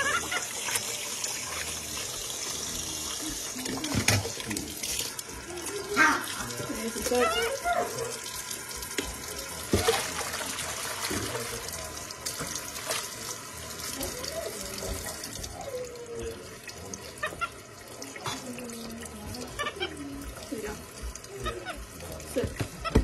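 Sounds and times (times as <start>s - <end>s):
faucet water splashing: 0.0s - 23.0s.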